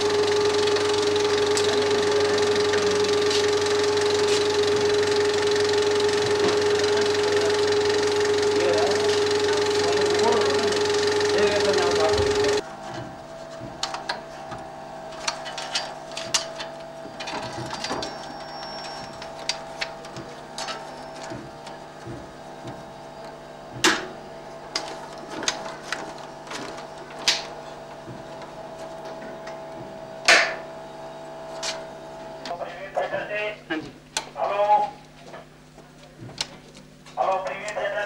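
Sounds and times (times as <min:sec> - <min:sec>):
projector humming: 0:00.0 - 0:38.0.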